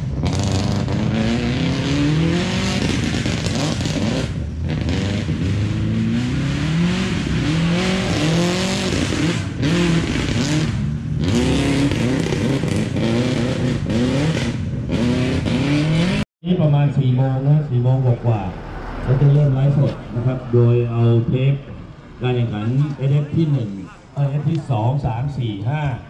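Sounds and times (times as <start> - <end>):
rally car engine revving: 0.0 - 25.6.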